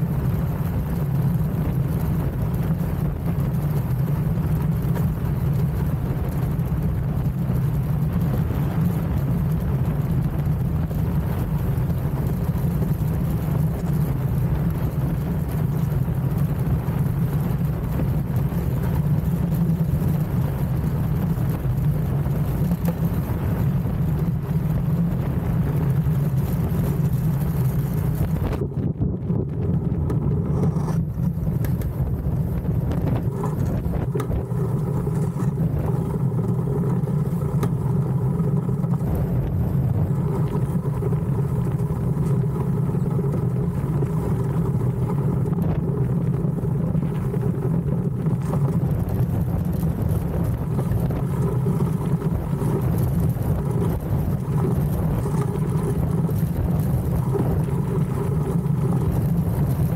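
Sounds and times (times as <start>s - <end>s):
iceboat runners gliding over ice: 0.0s - 59.9s.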